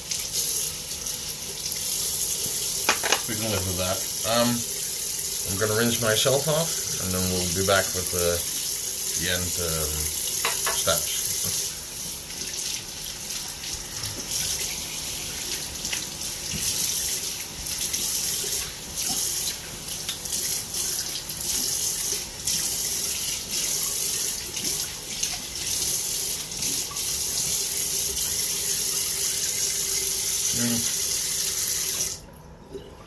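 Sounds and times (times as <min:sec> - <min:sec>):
tap water running into sink: 0:00.0 - 0:32.2.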